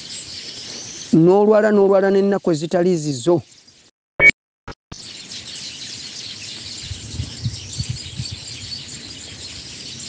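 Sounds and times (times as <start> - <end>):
small birds chirping: 0.0 - 3.9, 5.0 - 10.0.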